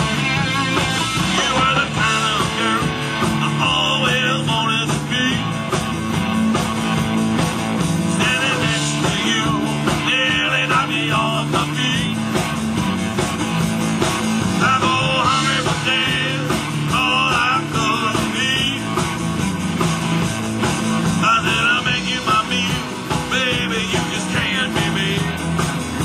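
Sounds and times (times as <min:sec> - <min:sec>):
bending lead guitar line: 0:00.0 - 0:26.0
drum kit: 0:00.0 - 0:26.0
electric guitars: 0:00.0 - 0:26.0.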